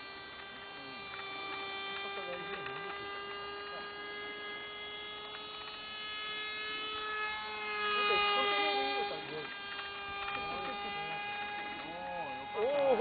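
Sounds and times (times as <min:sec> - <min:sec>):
model plane motor droning: 0:00.0 - 0:13.0.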